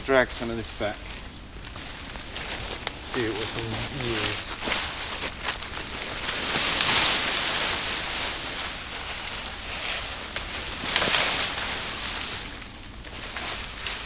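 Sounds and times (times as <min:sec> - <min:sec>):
brushwood dragged over leaves: 0:00.0 - 0:14.0
twigs snapping: 0:00.7 - 0:14.0.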